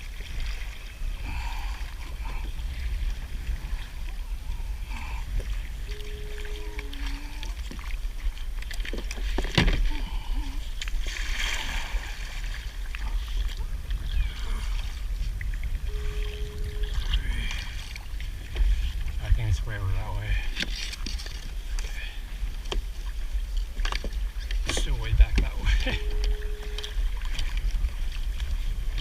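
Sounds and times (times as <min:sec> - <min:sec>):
low wind rumble on microphone: 0:00.0 - 0:29.0
paddle strokes: 0:00.0 - 0:29.0
water sloshing against hull: 0:00.0 - 0:29.0.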